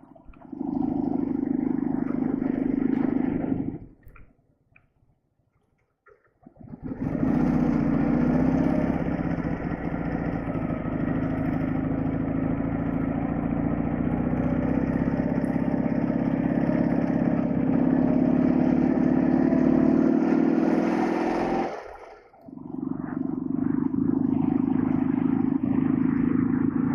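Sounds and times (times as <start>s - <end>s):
motorcycle engine running: 0.0s - 4.0s, 6.6s - 26.9s.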